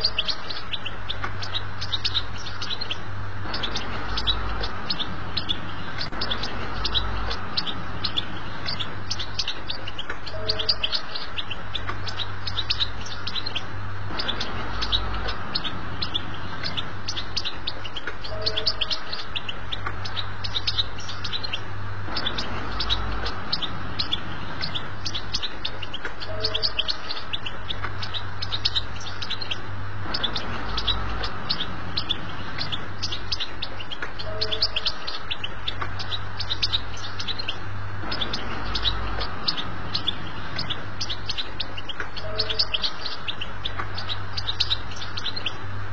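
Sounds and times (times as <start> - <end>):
goldfinch twittering song: 0.0 - 45.9
steady low hum: 0.0 - 45.9.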